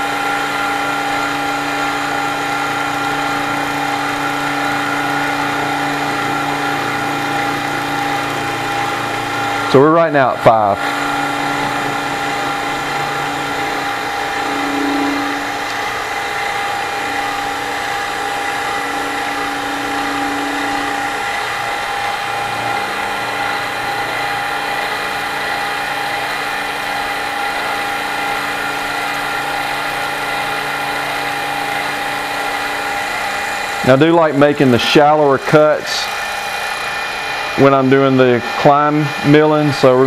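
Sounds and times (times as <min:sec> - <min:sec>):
milling machine whining: 0:00.0 - 0:40.0.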